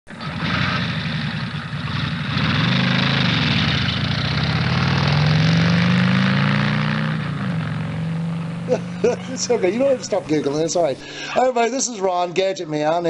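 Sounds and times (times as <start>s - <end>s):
car engine running: 0.1s - 11.3s.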